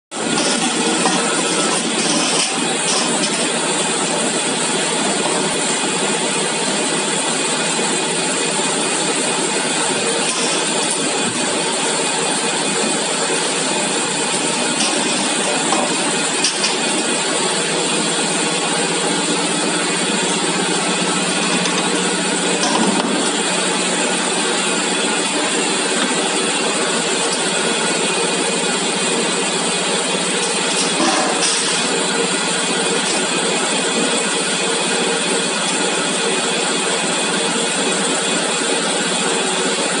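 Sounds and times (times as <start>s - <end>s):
steady machinery noise: 0.1s - 40.0s.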